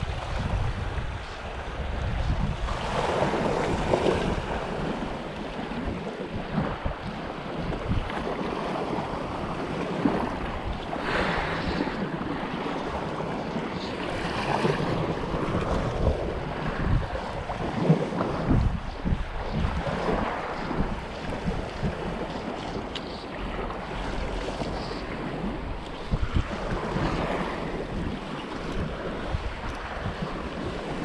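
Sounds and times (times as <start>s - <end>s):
small waves washing: 0.0s - 31.0s
wind buffeting microphone: 0.0s - 31.0s.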